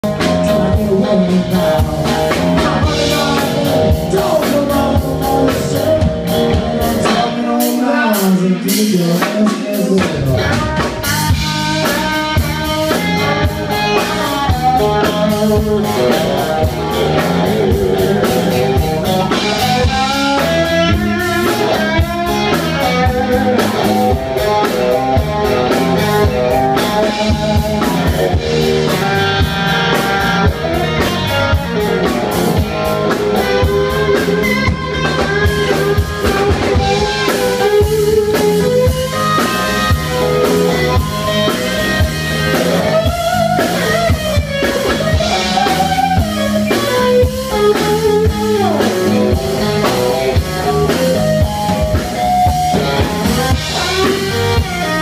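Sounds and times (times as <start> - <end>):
drums and heavy low end: 0.0 - 55.0
electric guitar: 0.0 - 55.0.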